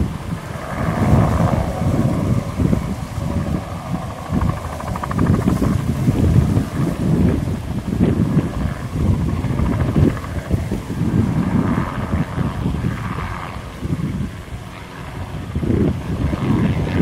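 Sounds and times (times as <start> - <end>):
helicopter flying past: 0.0 - 17.0
wind buffeting microphone: 0.0 - 17.0.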